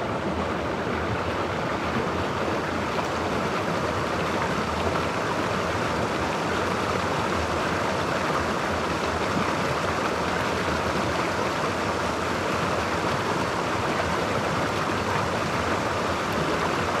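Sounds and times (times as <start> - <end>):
creek water flowing over rocks: 0.0 - 17.0.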